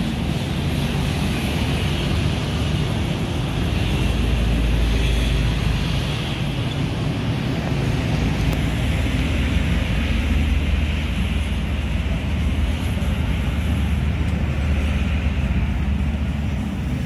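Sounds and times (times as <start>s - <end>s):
road traffic passing: 0.0s - 17.0s
wind rumbling on microphone: 0.0s - 17.0s.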